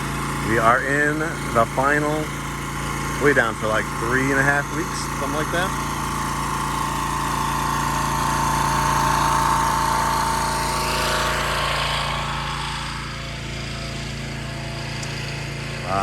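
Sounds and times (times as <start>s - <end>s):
pressure washer whining: 0.0s - 16.0s.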